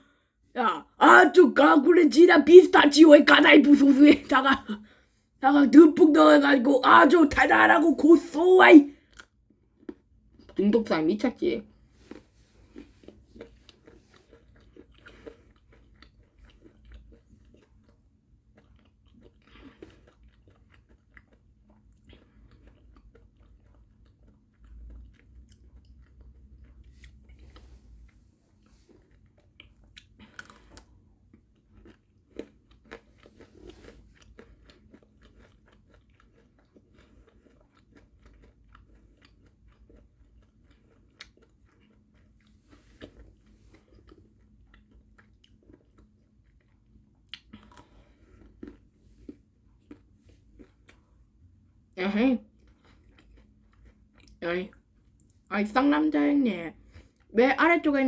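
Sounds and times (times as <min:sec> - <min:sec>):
chewing and crunching: 0:05.7 - 0:55.5, 0:56.7 - 0:57.4.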